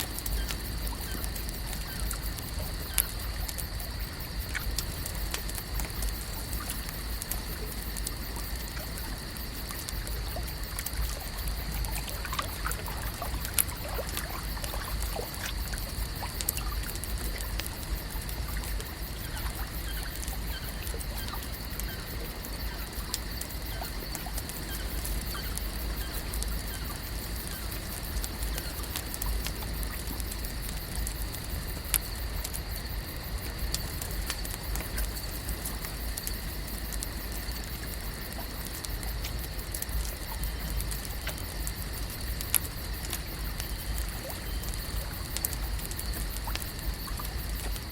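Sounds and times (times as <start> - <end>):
small ticks and drips: 0.0 - 47.9
water trickling and lapping: 0.0 - 47.9.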